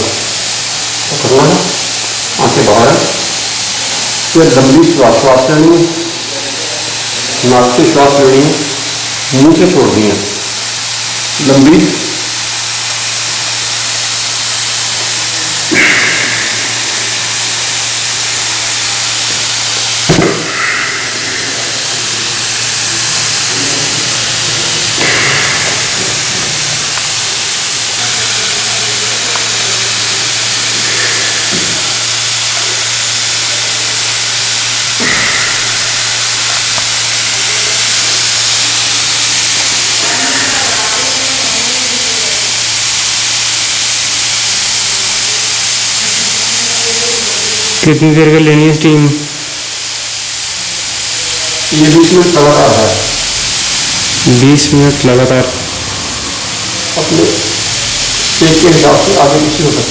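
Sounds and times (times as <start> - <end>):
steam hissing from pressure cooker: 0.0 - 59.9.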